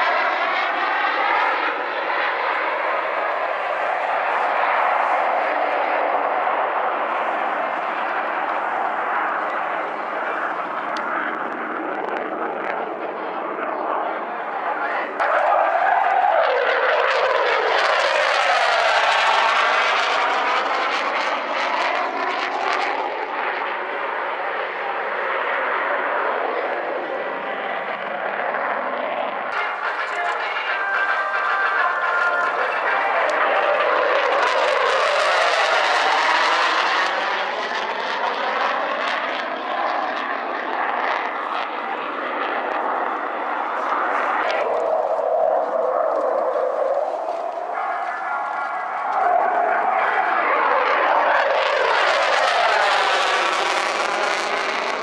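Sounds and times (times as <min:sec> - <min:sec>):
jet flying past: 0:00.0 - 0:55.0.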